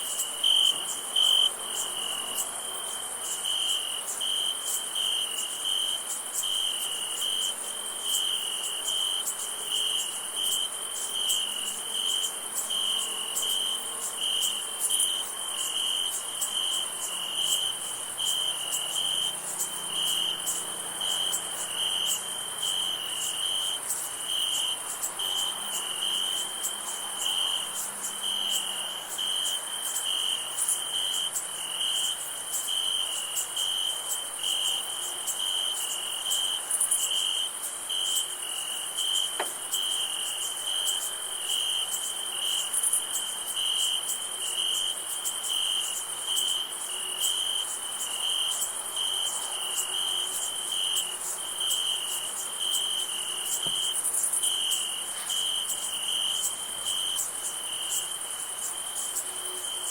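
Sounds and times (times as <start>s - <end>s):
crickets chirping: 0.0s - 59.9s
high-pitched insect trill: 0.0s - 59.9s.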